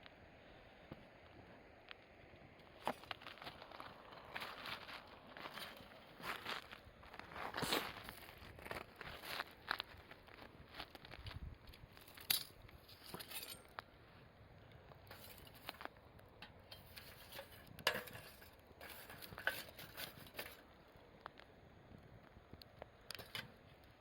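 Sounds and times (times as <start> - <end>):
wood fire crackling: 0.3 - 24.0.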